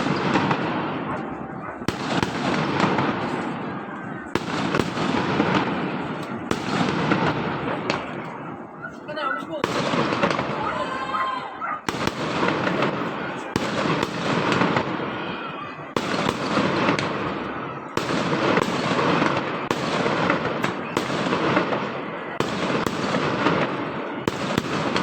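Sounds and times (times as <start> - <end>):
firecrackers crackling: 0.0 - 25.0
fireworks bangs: 0.0 - 25.0.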